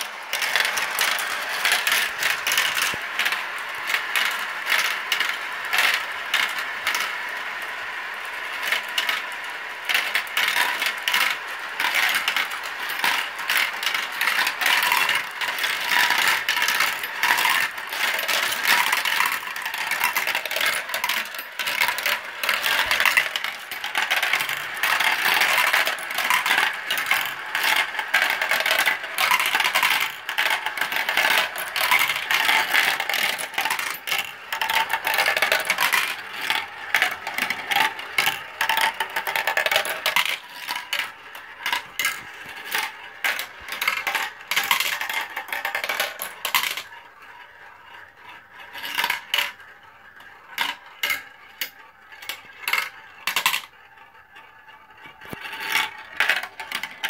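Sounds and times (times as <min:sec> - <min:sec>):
marbles clattering through plastic run: 0:00.0 - 0:57.0.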